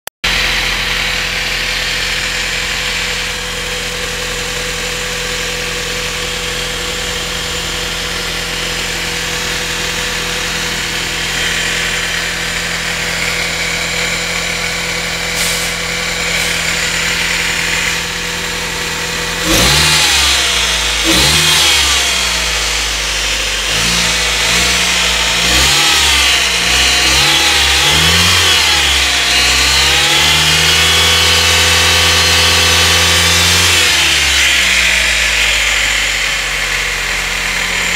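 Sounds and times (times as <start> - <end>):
car engine idling and revving: 0.2 - 37.9
engine ticking: 0.2 - 37.9.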